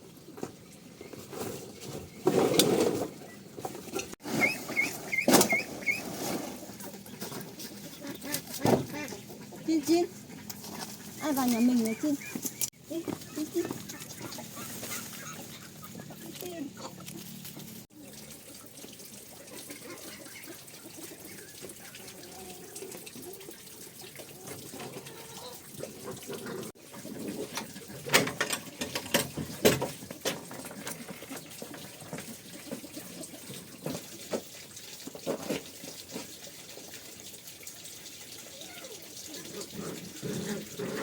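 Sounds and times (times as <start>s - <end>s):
water running: 3.9s - 41.0s.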